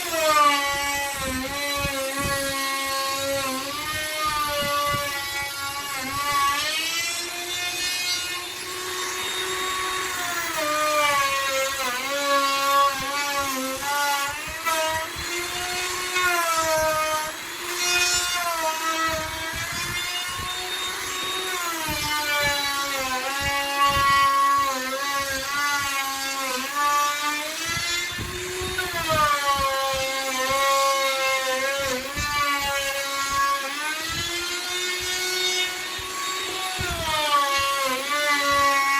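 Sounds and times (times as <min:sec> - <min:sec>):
electric wood router whining: 0:00.0 - 0:38.9.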